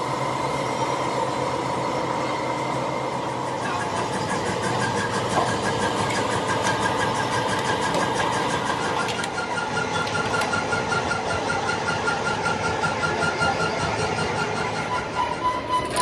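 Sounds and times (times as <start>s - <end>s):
factory machinery running: 0.0s - 16.0s.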